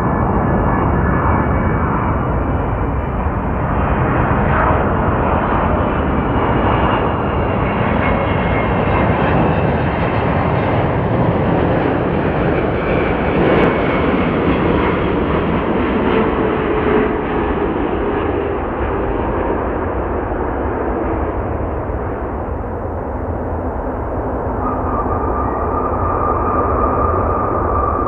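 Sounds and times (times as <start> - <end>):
jet airliner engines rumbling: 0.0 - 28.0.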